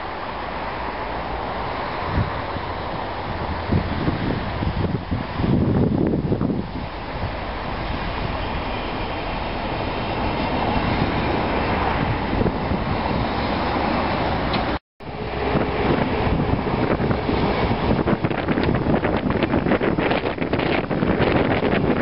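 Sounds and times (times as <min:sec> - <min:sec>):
diesel train approaching: 0:00.0 - 0:22.0
wind on microphone: 0:02.0 - 0:22.0.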